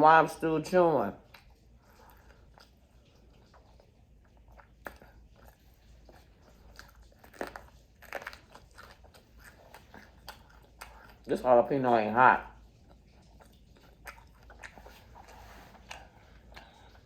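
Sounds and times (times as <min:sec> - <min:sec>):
person chewing crunchy food: 0:01.2 - 0:17.0.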